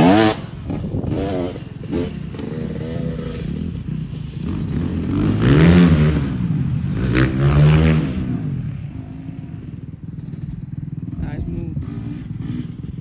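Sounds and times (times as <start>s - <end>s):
motocross engine revving: 0.0s - 13.0s.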